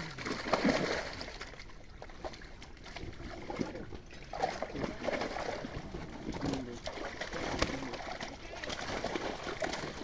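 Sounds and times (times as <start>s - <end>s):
pond water trickling and lapping: 0.0s - 10.0s.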